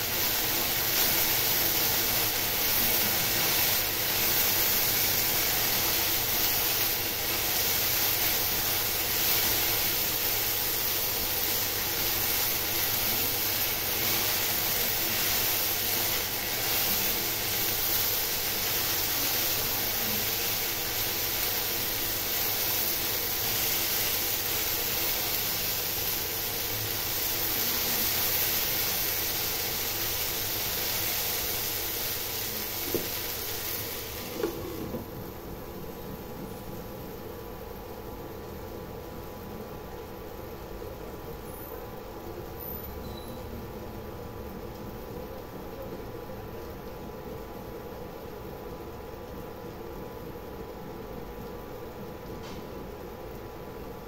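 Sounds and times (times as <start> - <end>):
okra sizzling in oil: 0.0 - 45.7.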